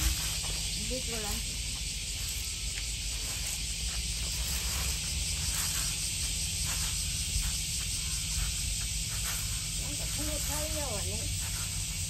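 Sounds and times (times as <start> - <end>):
cicada chorus: 0.0 - 12.0.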